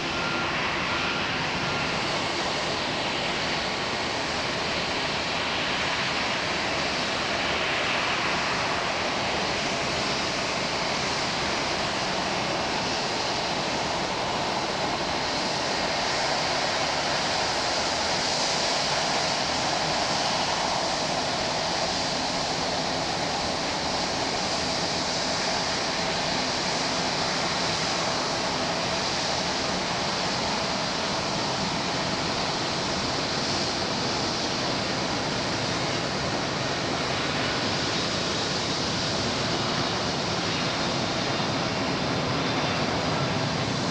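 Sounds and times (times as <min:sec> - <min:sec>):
jet engines roaring: 0:00.0 - 0:43.9.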